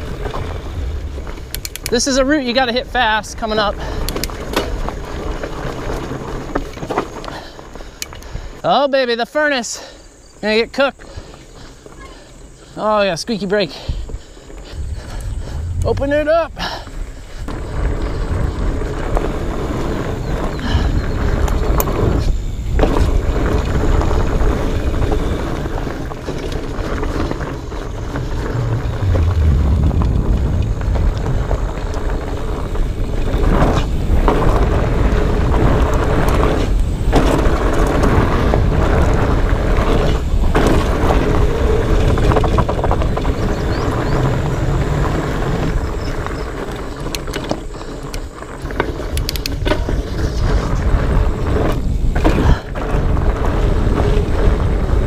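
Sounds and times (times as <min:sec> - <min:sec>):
wind buffeting microphone: 0:00.0 - 0:08.6, 0:11.0 - 0:55.0
bike tyres rattling over rocks: 0:00.0 - 0:55.0.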